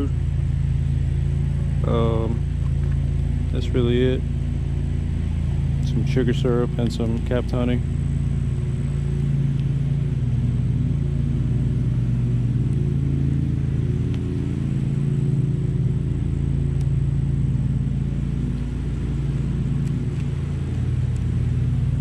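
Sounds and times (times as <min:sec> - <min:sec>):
honeybees buzzing: 0:00.2 - 0:22.0.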